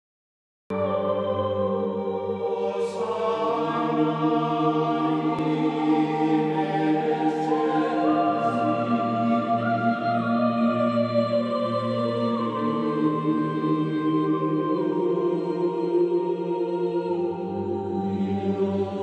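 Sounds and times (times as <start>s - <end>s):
slow sustained chords music: 0.7s - 19.0s.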